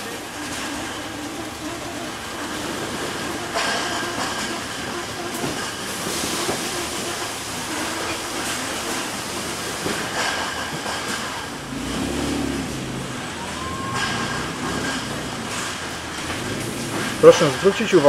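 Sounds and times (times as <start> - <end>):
conveyors rattling: 0.0 - 18.0.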